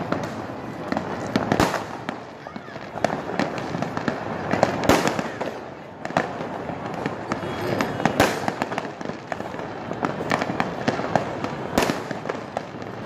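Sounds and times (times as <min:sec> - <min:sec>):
fireworks bangs and crackles: 0:00.0 - 0:13.0
loud firework booms: 0:00.0 - 0:13.0.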